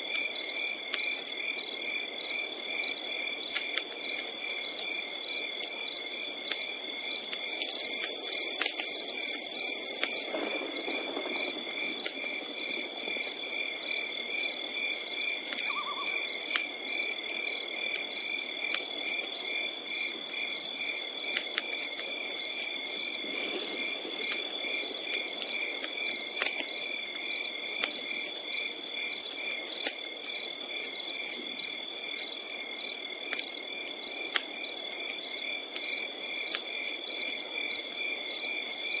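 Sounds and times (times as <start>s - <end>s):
campfire crackling: 0.0s - 39.0s
continuous high insect trill: 0.0s - 39.0s
crickets chirping: 0.0s - 39.0s.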